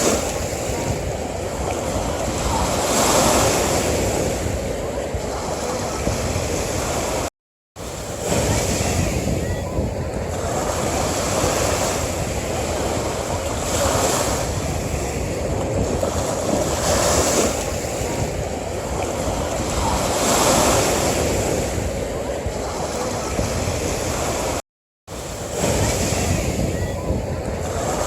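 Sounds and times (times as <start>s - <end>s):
rushing water: 0.0s - 28.0s
waves breaking on shore: 0.0s - 28.0s.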